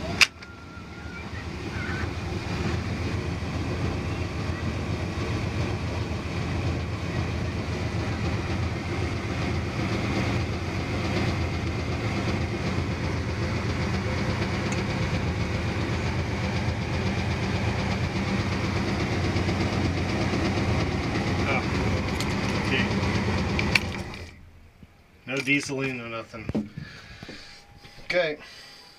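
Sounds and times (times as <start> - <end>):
boat engine idling: 0.0 - 28.8.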